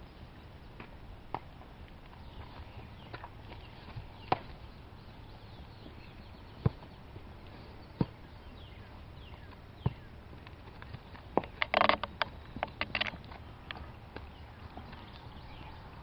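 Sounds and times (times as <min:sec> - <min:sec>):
horse hoofbeats on grass: 0:00.8 - 0:16.0
birds chirping: 0:01.6 - 0:16.0.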